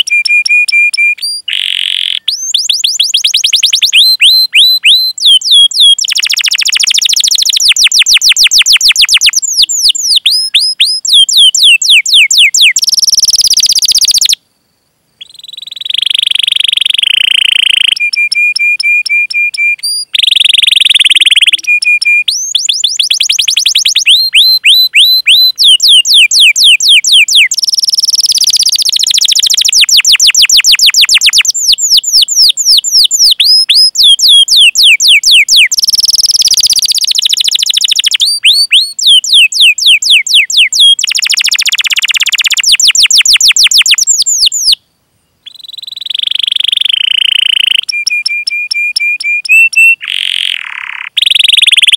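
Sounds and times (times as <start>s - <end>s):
canary singing: 0.0s - 14.4s, 15.2s - 44.8s, 45.4s - 51.9s.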